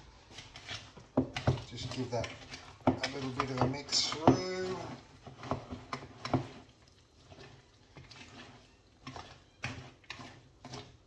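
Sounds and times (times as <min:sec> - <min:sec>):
whisk mixing batter: 0:00.0 - 0:11.0
whisk tapping bowl: 0:00.3 - 0:11.0.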